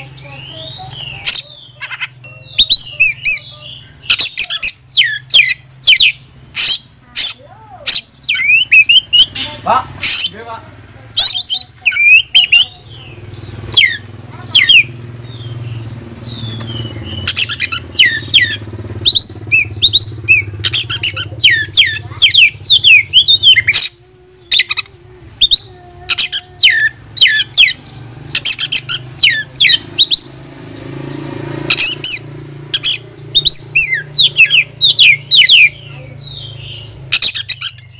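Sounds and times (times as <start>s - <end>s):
bird singing whistled notes: 0.2s - 6.9s, 7.9s - 9.5s, 11.2s - 14.0s, 14.6s - 24.8s, 25.4s - 37.9s.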